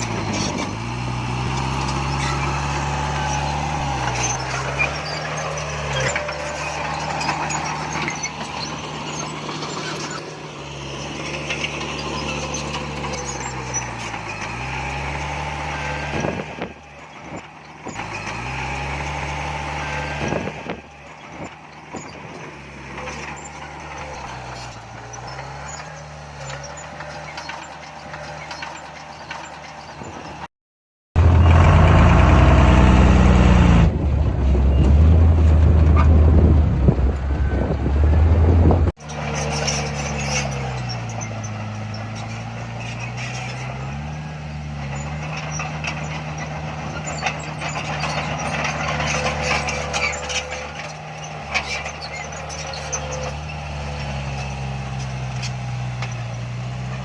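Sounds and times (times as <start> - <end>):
heavy diesel engine labouring: 0.0 - 30.5, 31.2 - 57.0.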